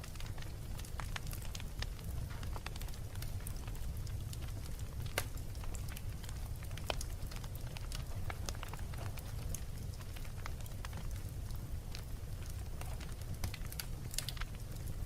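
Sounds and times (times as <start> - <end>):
fire low rumble: 0.0 - 15.0
wood fire crackling and popping: 0.0 - 15.0.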